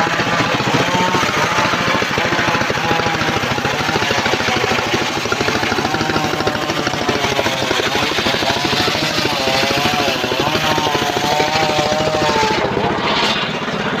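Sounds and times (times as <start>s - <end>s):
saw whining: 0.0s - 14.0s
sawmill engine running: 0.0s - 14.0s.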